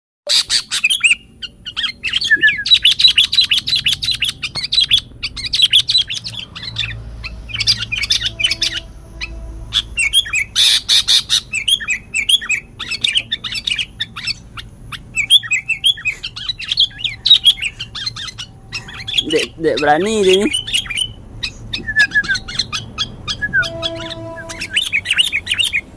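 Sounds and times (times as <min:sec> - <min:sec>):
songbirds chirping: 0:00.3 - 0:25.9.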